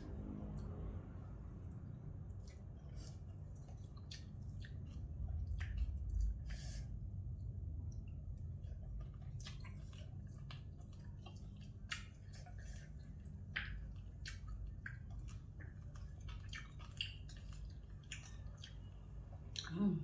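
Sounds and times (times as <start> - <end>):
steady low hum: 0.0 - 20.0
wet mouth chewing sounds: 1.6 - 20.0.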